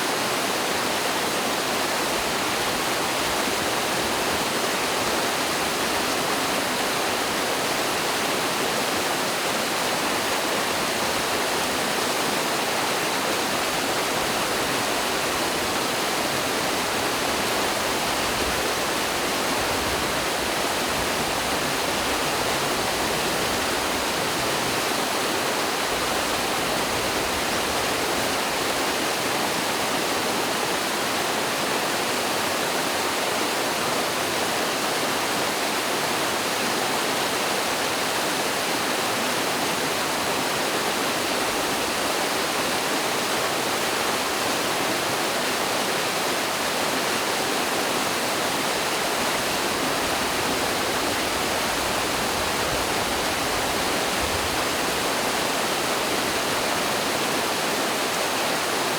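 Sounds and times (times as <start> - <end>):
water rushing over waterfall: 0.0 - 58.9.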